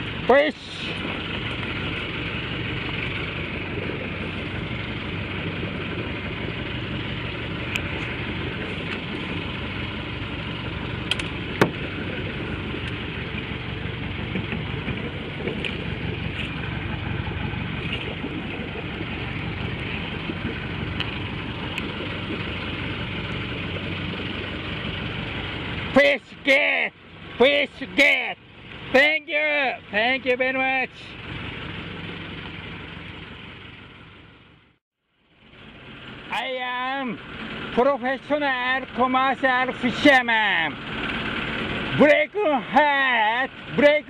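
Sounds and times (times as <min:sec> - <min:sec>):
boat engine idling: 0:00.0 - 0:44.0.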